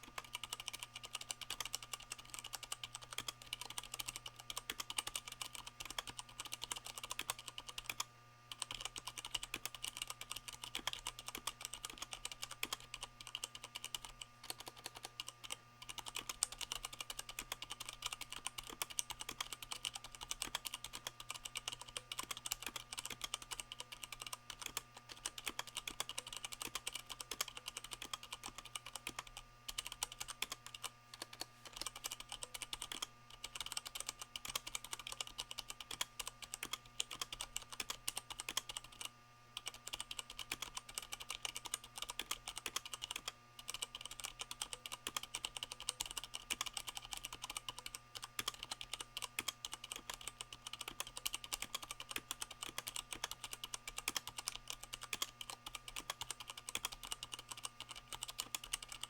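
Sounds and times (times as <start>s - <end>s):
fast mechanical keyboard typing: 0.0s - 59.0s.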